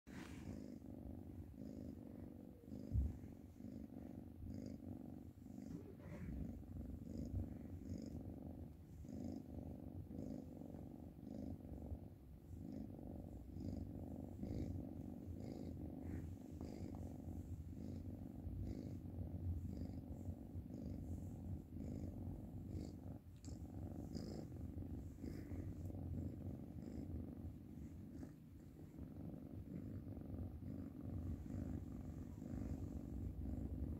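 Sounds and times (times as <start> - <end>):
kitten purring: 0.1 - 33.9.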